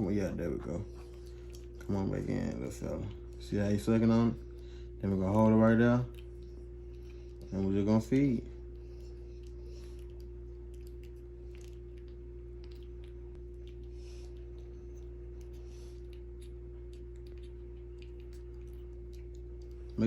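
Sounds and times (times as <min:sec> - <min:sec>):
electrical hum: 0:00.0 - 0:20.0
puppy sucking wet clicks: 0:00.0 - 0:20.0.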